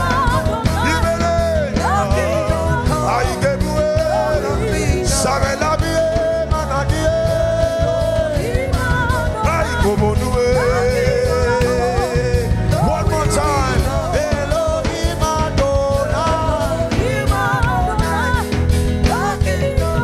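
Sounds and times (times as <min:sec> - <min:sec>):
man singing into a microphone: 0:00.0 - 0:18.5
band playing a steady beat: 0:00.0 - 0:20.0
woman backing vocals: 0:00.0 - 0:20.0.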